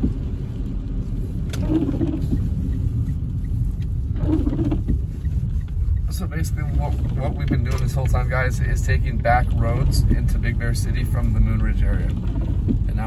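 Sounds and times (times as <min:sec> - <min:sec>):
car driving on wet road: 0:00.0 - 0:13.0.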